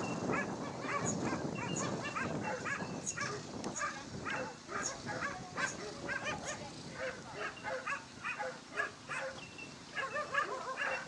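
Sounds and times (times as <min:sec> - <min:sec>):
dogs yipping and yelping: 0:00.0 - 0:11.0.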